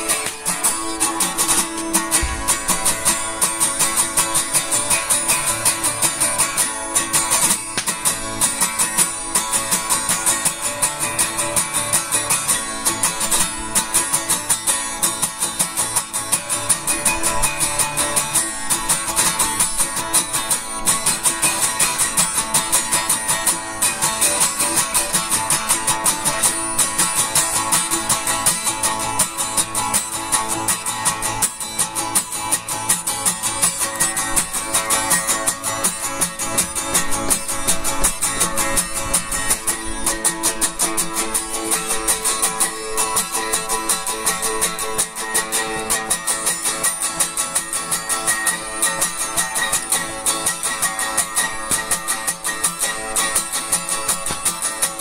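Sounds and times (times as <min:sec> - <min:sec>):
fast strummed guitar: 0:00.0 - 0:55.0.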